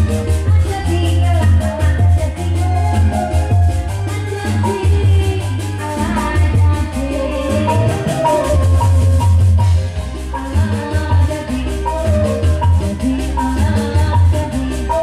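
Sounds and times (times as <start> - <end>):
instrumental music with steady beat: 0.0 - 15.0
melody line: 0.0 - 15.0
shaker-like ticking: 0.0 - 15.0.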